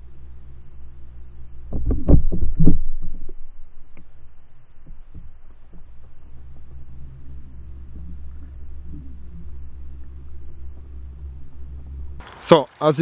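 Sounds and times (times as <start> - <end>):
dull low thumps and knocks: 0.0 - 12.2
low underwater rumble: 0.0 - 12.3.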